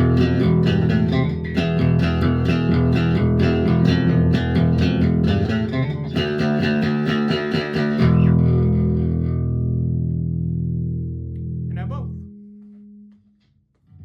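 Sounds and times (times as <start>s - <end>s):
electric bass picked notes: 0.0s - 13.2s.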